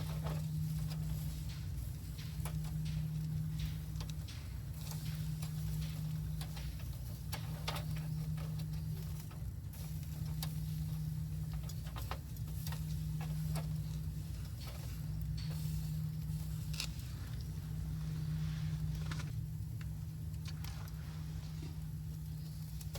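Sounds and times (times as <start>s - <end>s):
steady low hum: 0.0s - 22.9s
wood fire crackling: 0.0s - 22.9s.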